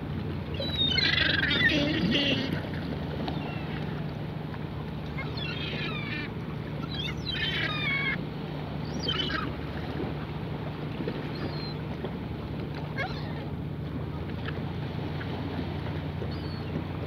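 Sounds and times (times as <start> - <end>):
wind and water noise: 0.0 - 17.0
gulls calling: 0.1 - 17.0.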